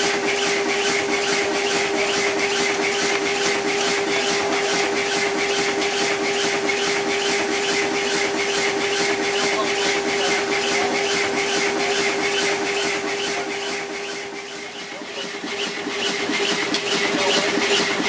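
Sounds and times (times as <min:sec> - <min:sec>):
steady dynamo hum: 0:00.0 - 0:18.0
steam engine exhaust beat: 0:00.0 - 0:18.0.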